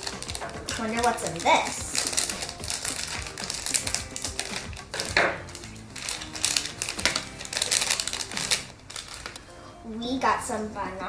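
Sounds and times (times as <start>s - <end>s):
plastic packet crinkling and tearing: 0.0s - 9.5s.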